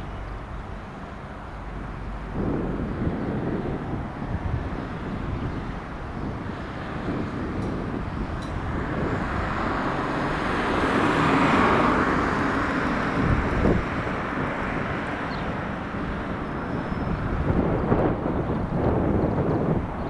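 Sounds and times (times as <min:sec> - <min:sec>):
jet engine rumble: 0:00.0 - 0:20.0
low gusty buffeting: 0:00.0 - 0:20.0.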